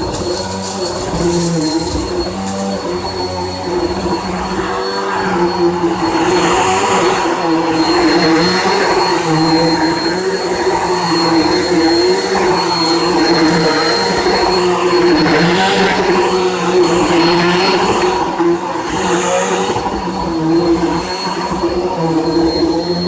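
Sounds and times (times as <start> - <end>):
vacuum cleaner running on a rug: 0.0 - 23.0.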